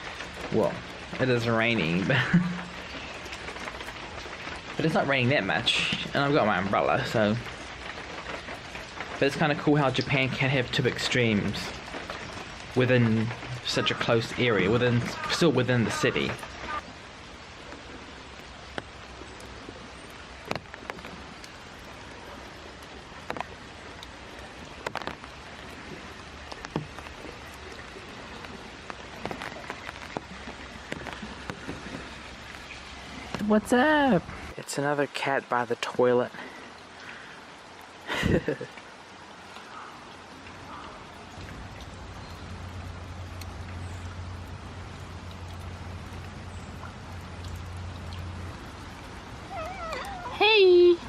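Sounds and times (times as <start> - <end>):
raindrops tapping on umbrella: 0.0 - 33.5, 36.5 - 51.0
light rain falling: 0.0 - 51.0.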